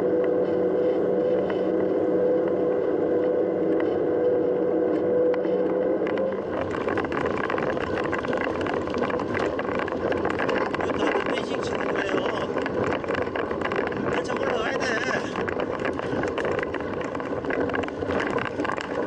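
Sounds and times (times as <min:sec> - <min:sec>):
mountain bike rattling: 0:00.0 - 0:19.0.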